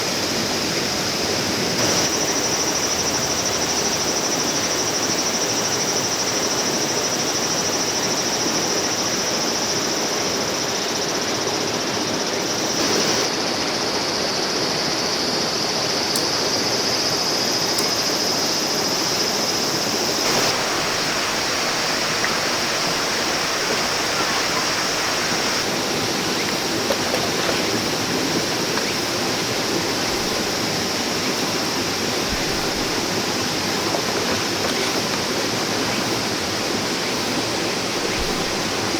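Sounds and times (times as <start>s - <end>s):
stream running over rocks: 0.0s - 8.6s, 12.4s - 15.5s, 19.3s - 38.9s.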